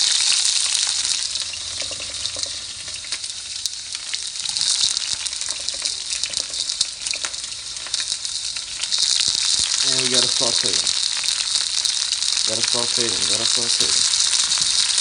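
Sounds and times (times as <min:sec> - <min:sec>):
food sizzling in a skillet: 0:00.0 - 0:15.0
crackling pops: 0:01.8 - 0:15.0.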